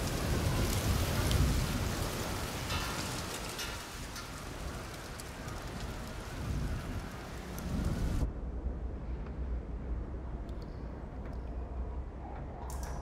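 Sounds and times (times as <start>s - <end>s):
wind and rain rushing: 0.0s - 12.6s.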